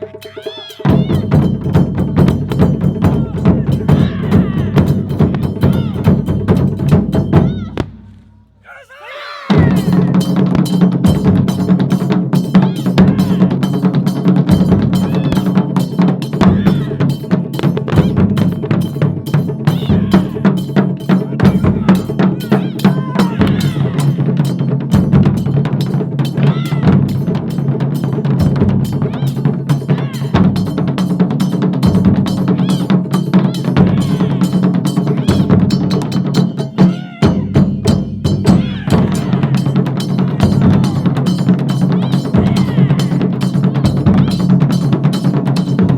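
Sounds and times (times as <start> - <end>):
taiko drumming: 0.0 - 8.4, 9.5 - 45.9.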